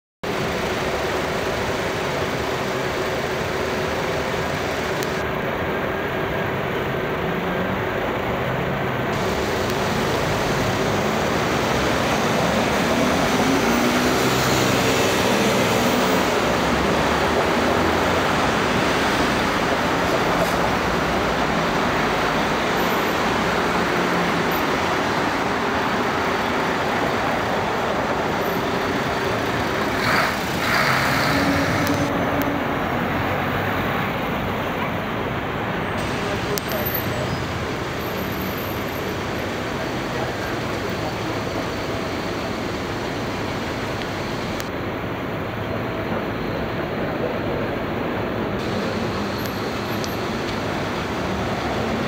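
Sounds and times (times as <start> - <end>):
busy street traffic: 0.2 - 52.0
cars passing: 0.2 - 52.0.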